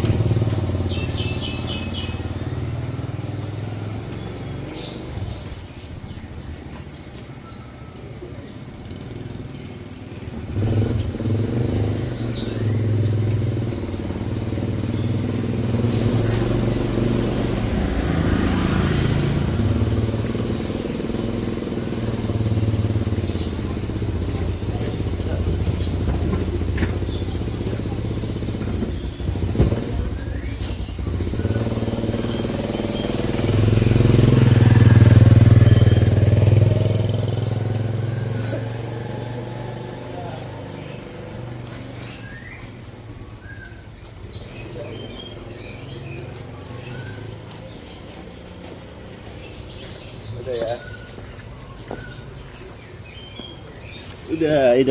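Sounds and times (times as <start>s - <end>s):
motorcycle engine running: 0.0s - 7.0s, 8.8s - 54.9s.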